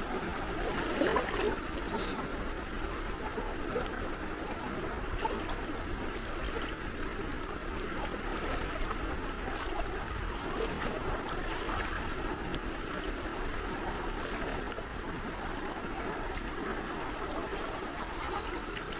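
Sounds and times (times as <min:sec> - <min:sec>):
sea waves lapping at shore: 0:00.0 - 0:18.9.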